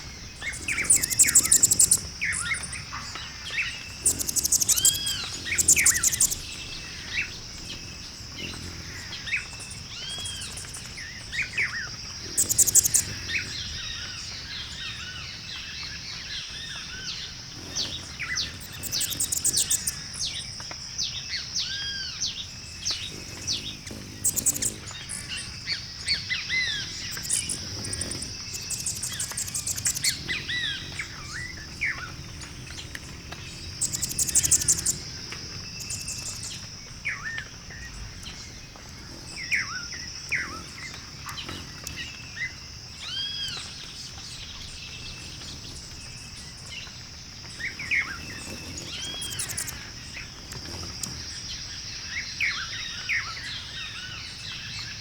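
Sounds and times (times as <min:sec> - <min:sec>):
birds chirping and calling: 0:00.0 - 0:20.7, 0:21.7 - 0:54.2
rapid bird trills: 0:00.0 - 0:54.3
steady high hiss: 0:00.0 - 0:54.7.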